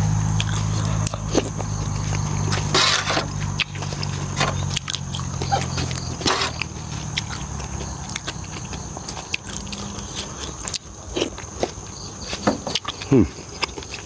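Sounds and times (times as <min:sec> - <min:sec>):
close-up chewing with crunches: 0:00.0 - 0:14.0.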